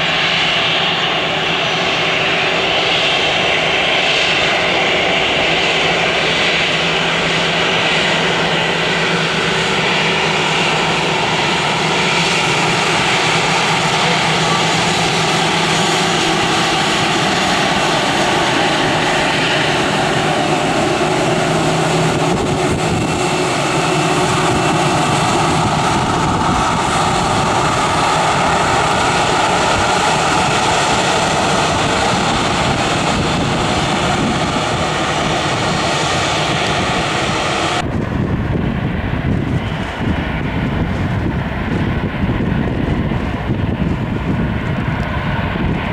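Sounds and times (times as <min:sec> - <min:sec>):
jet engines at taxi power: 0:00.0 - 0:45.9.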